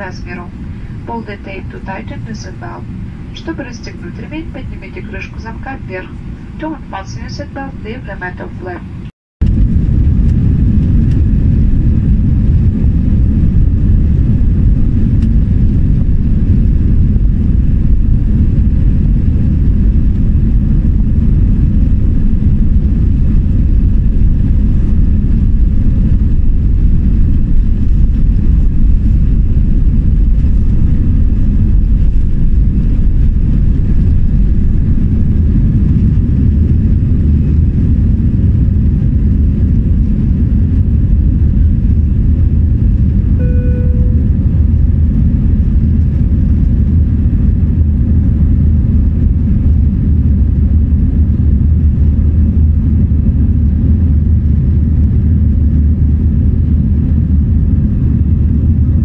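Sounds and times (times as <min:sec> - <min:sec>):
jet engines heard from cabin: 0:00.0 - 0:59.0.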